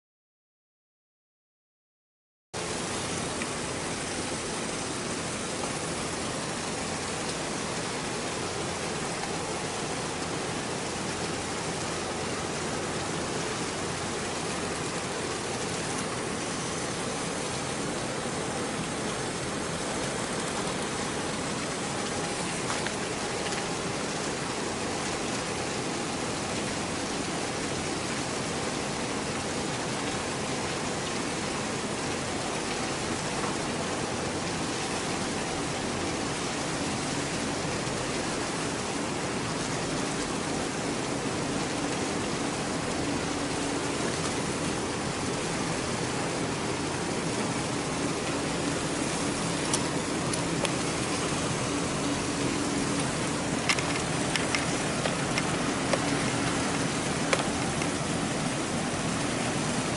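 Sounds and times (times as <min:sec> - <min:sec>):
water rushing and hissing: 0:02.6 - 0:59.9.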